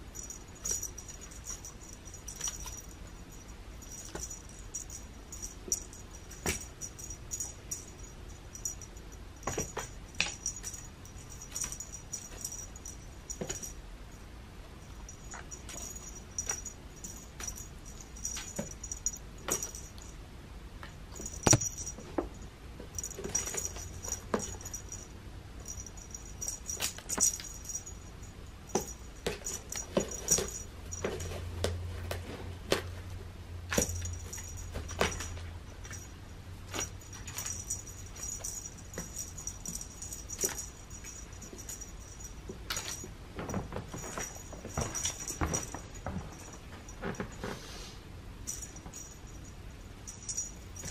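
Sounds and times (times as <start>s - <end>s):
faint high ringing: 0.0s - 20.3s, 21.1s - 31.9s, 32.9s - 50.9s
cat playing with toy: 0.1s - 13.8s, 14.8s - 20.1s, 21.2s - 22.2s, 22.9s - 31.5s, 33.7s - 47.7s, 48.4s - 50.9s.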